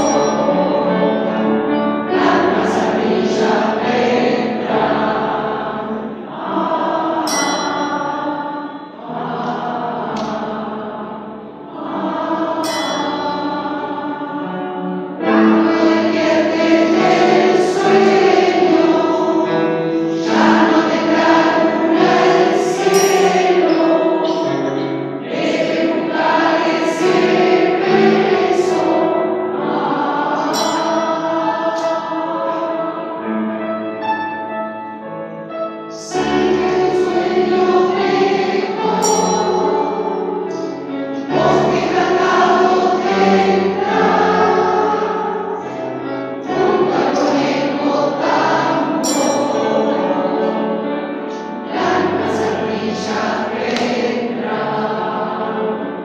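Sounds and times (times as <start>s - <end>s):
mixed choir singing: 0.0s - 34.5s, 35.4s - 56.0s
piano accompaniment: 0.0s - 56.0s.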